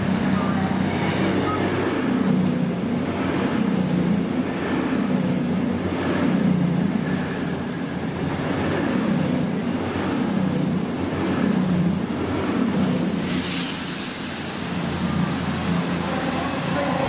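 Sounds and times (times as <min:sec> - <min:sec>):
passenger train running: 0:00.0 - 0:17.0.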